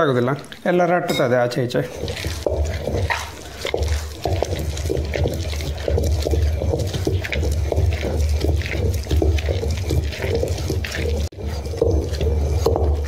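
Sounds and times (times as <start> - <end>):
wet paste squelching: 0.0 - 13.0
stone rumbling on stone: 1.9 - 13.0.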